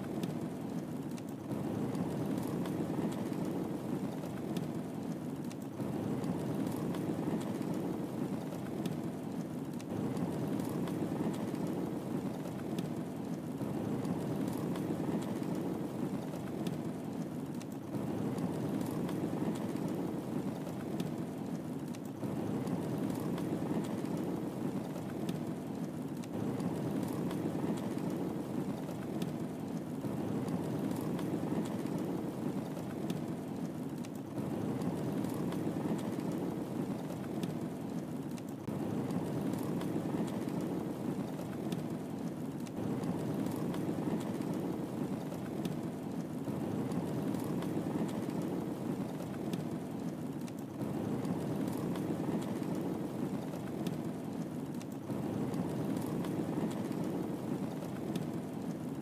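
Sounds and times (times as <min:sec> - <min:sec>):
fire crackling and popping: 0:00.0 - 0:59.0
flames rushing: 0:00.0 - 0:59.0.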